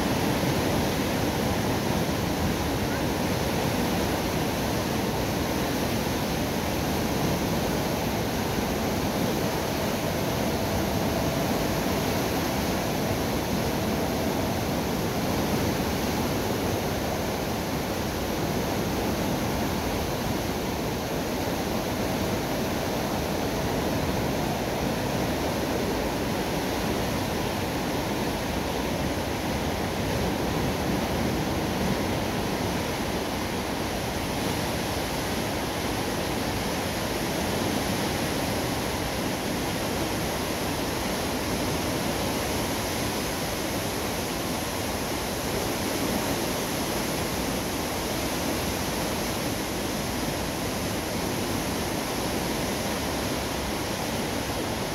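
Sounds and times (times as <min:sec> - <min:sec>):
turbulent water rushing: 0:00.0 - 0:54.9.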